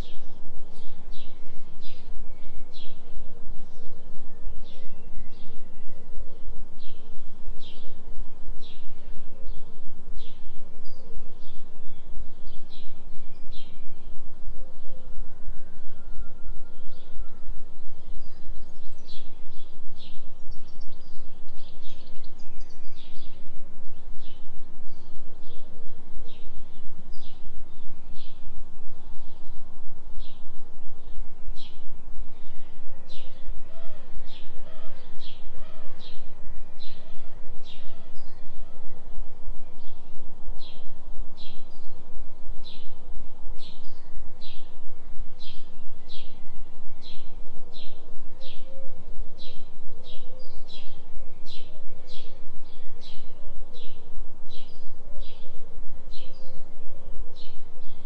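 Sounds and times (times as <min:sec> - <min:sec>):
fainter lower bird calls: 0:00.0 - 0:58.0
songbirds chirping: 0:00.0 - 0:58.0.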